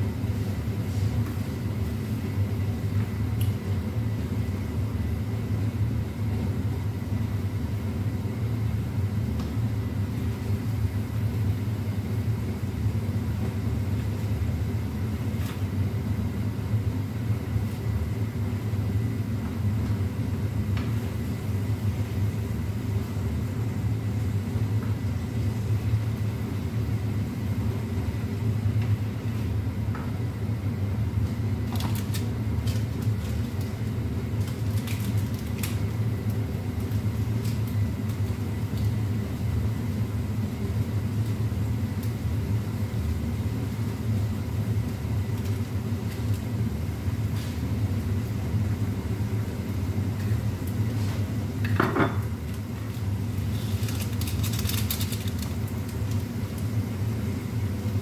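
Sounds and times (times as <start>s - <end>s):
low hum of gas hob: 0.0s - 58.0s.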